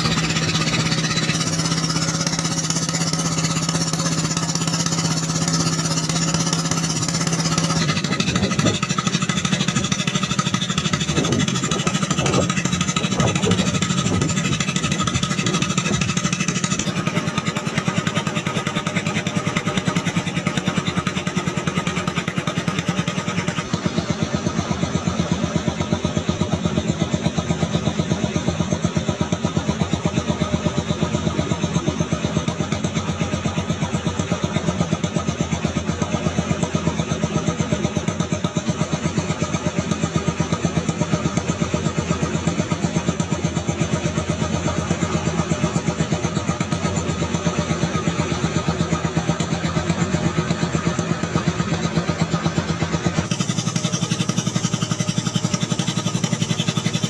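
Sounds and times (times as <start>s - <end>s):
boat engine puttering: 0.0s - 57.0s.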